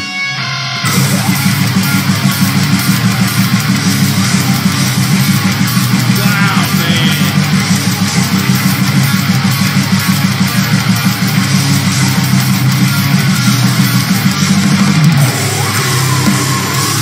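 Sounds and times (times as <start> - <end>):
heavy metal music: 0.0 - 17.0.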